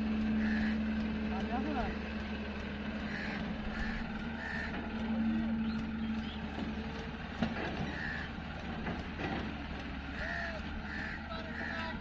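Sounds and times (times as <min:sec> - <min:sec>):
diesel engine running at low revs: 0:00.0 - 0:12.0.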